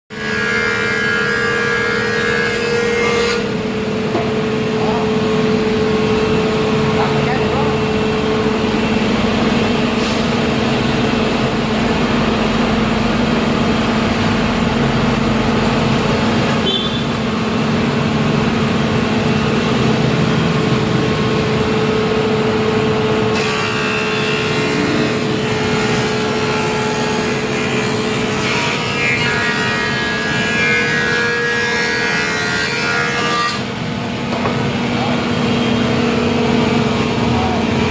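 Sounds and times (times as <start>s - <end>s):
wood planer running: 0.1s - 37.9s.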